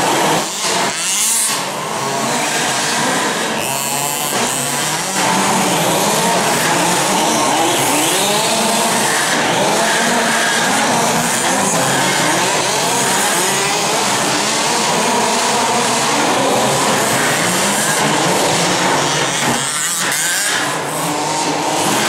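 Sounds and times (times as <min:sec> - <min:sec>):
small petrol engines buzzing: 0:00.0 - 0:22.0.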